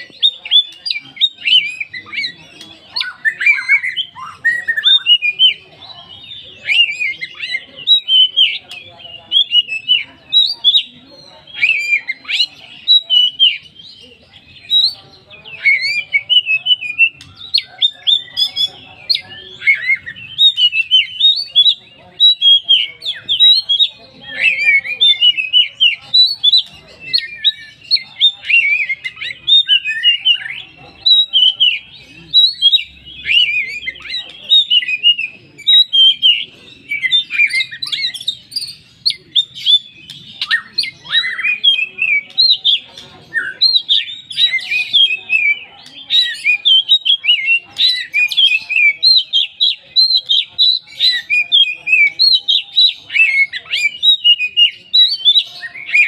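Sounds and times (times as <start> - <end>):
songbird chirping varied phrases: 0.0 - 56.0.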